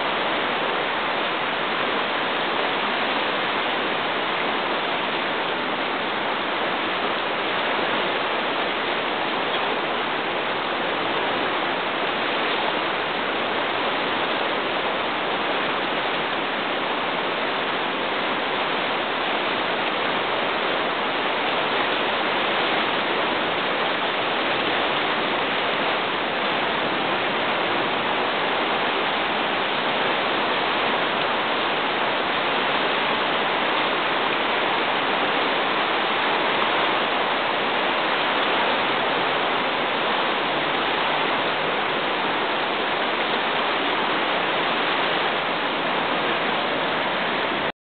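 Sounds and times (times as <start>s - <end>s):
river rushing: 0.0s - 47.7s.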